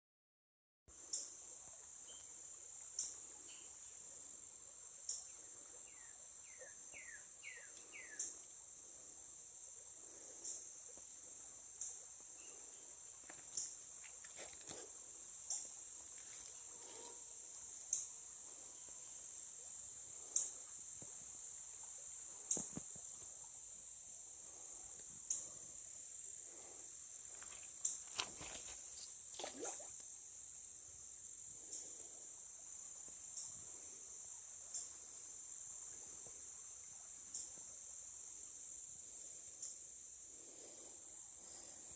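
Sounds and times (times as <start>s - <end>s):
high-pitched insect chorus: 1.0s - 41.9s
sharp insect chirps: 1.0s - 41.9s.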